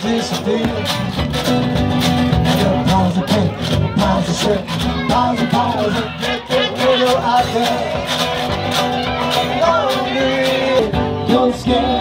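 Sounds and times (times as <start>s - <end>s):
steady beat: 0.0s - 12.0s
strummed acoustic guitar: 0.0s - 12.0s.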